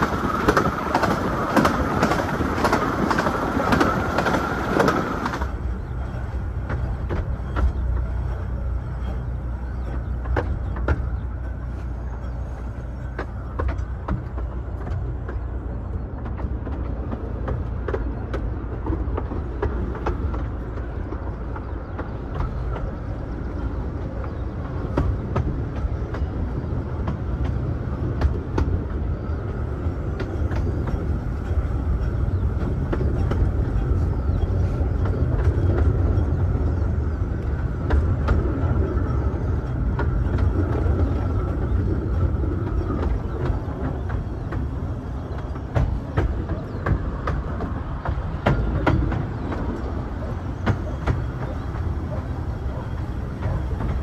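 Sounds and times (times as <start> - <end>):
railway carriage rumbling: 0.0 - 54.0
wheels clicking on rails: 0.0 - 54.0.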